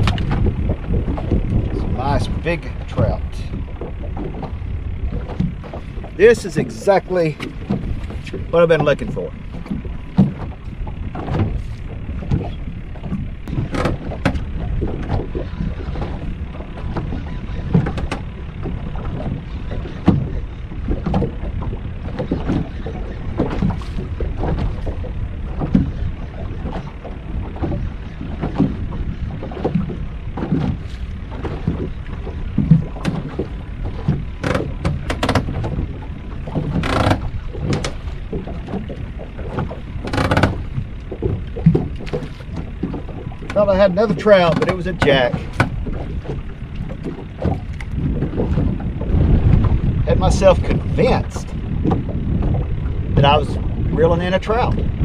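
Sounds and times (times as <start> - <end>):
knocks on boat: 0.0 - 6.8, 7.4 - 53.3
steady low rumble: 0.0 - 55.0
waves slapping against boat hull: 0.0 - 55.0.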